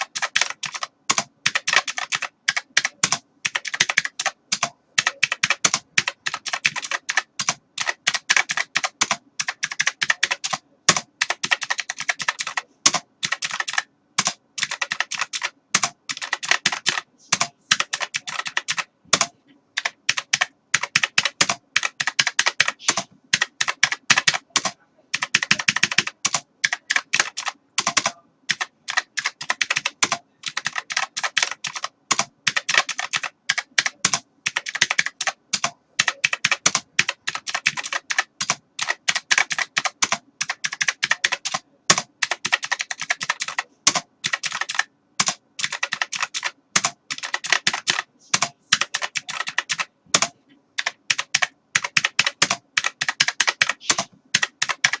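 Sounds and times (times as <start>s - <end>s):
computer keyboard typing: 0.0s - 55.0s.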